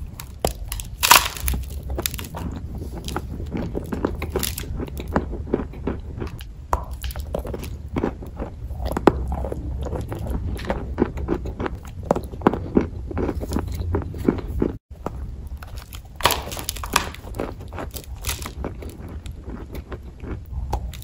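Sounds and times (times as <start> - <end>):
crunchy chewing: 0.0 - 21.0
steady low hum: 0.0 - 21.0.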